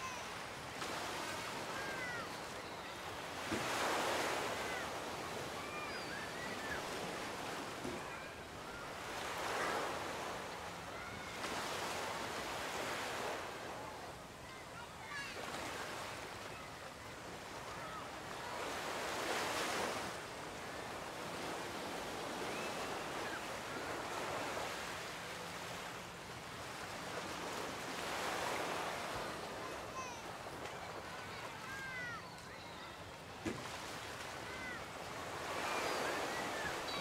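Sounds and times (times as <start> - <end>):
ocean surf washing onto beach: 0.0 - 16.7, 17.6 - 37.0.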